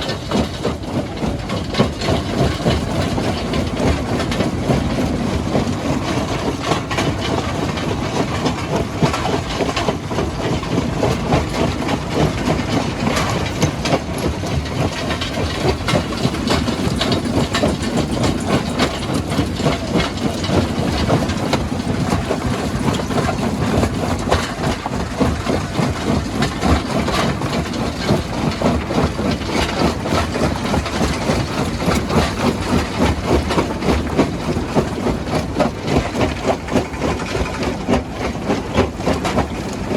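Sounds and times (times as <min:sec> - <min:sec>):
rock crusher rattling: 0:00.0 - 0:39.9.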